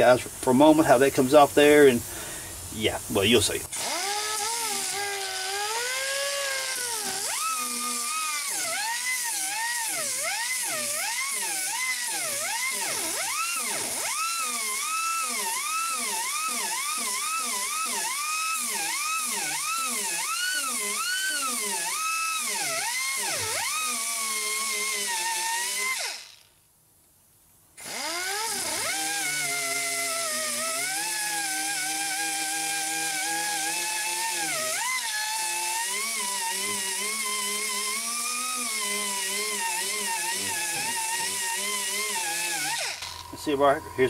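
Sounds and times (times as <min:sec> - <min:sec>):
pneumatic grinder whining: 0:03.2 - 0:26.6, 0:27.8 - 0:44.0.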